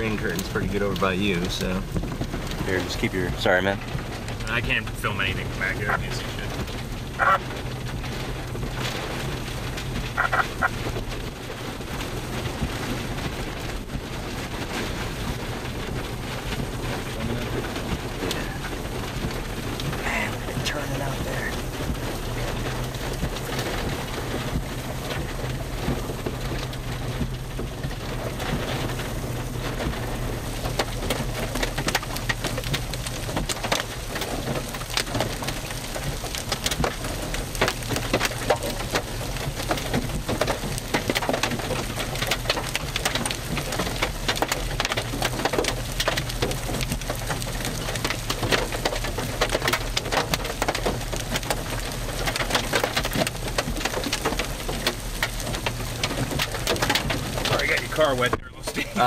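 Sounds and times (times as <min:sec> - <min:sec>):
hailstones clicking: 0:00.0 - 0:59.0
heavy rain hissing: 0:00.0 - 0:59.0.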